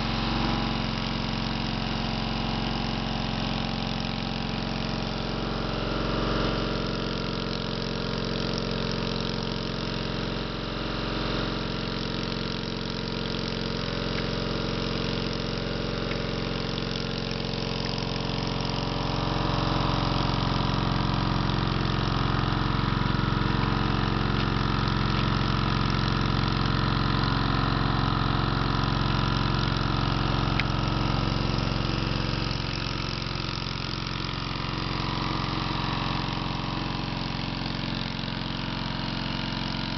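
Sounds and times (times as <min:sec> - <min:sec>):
air compressor engine running: 0:00.0 - 0:39.9.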